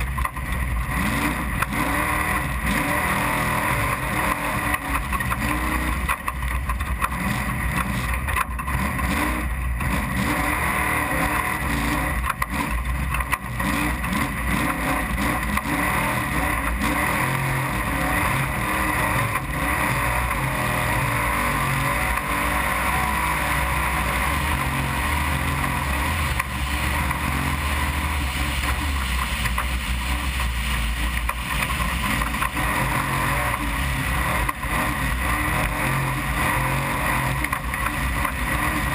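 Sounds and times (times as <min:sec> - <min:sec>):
truck engine running hard: 0:00.0 - 0:38.9.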